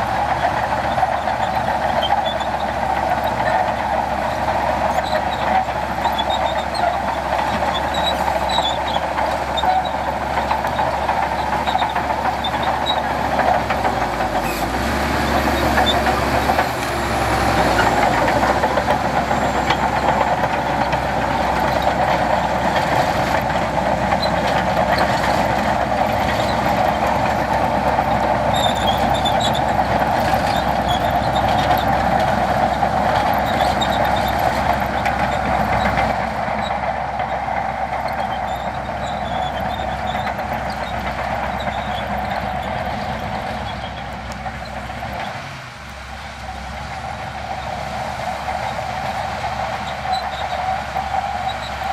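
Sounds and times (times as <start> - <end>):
heavy diesel machinery running: 0.0 - 51.9.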